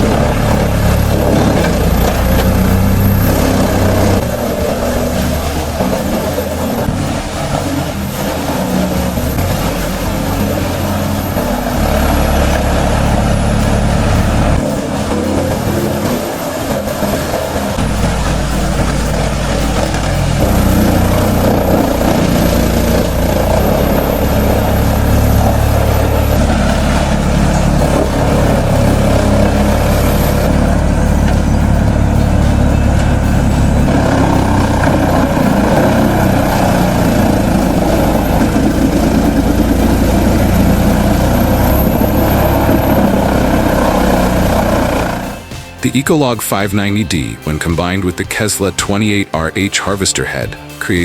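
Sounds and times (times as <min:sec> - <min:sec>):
heavy diesel machinery running: 0:00.0 - 0:51.0.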